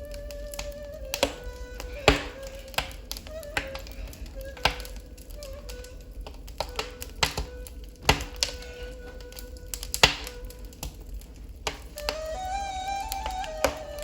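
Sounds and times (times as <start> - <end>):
ney flute long low note: 0.0 - 11.2, 11.9 - 14.0
wood fire crackling: 0.0 - 14.0.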